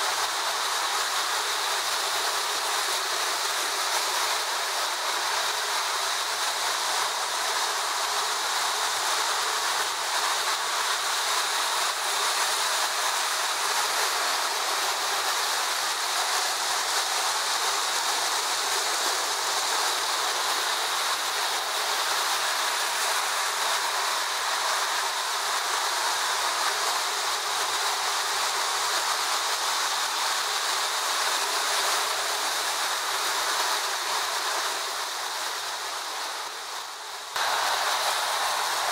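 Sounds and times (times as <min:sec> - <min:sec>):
toy trains running on track: 0:00.0 - 0:38.9.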